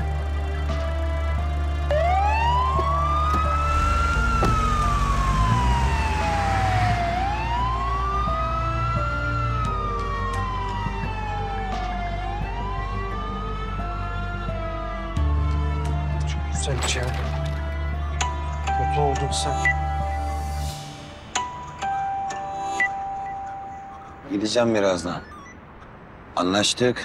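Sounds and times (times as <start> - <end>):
low drone: 0.0 - 24.3
background music notes: 0.0 - 24.6
emergency siren wailing: 0.0 - 26.2.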